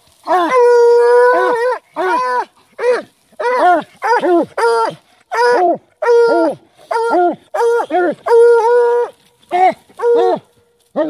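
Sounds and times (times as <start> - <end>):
hound baying: 0.3 - 11.0.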